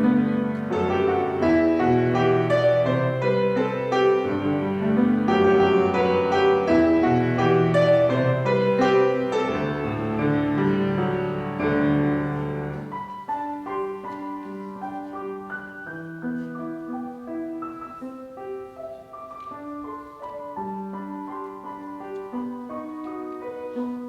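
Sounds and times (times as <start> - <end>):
slow piano piece: 0.0 - 24.0.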